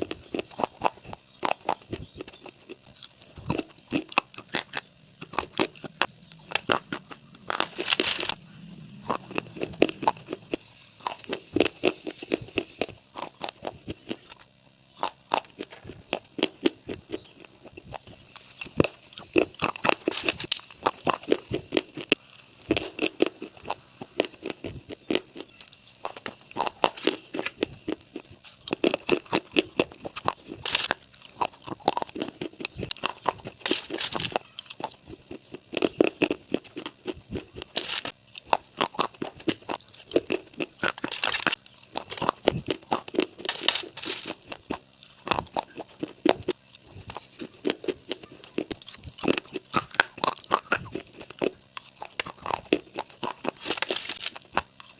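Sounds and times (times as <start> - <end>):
crunching and chewing: 0.0 - 54.9.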